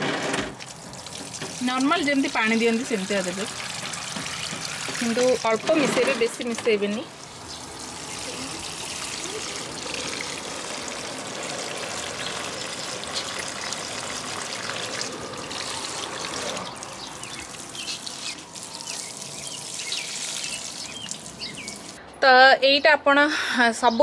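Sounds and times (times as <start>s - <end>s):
water pouring from watering can: 0.6s - 22.0s.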